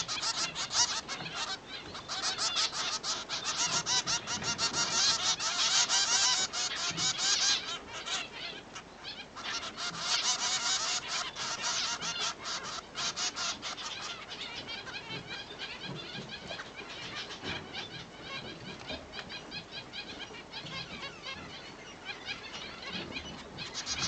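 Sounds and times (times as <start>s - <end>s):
finches chirping: 0.0s - 24.0s.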